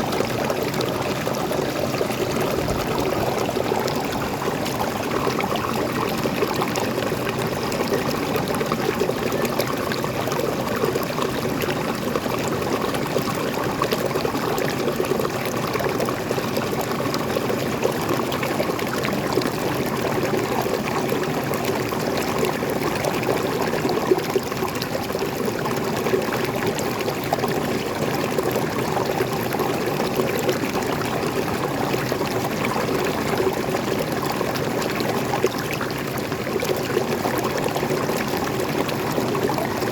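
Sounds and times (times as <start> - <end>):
stream water pouring and splashing: 0.0 - 39.9.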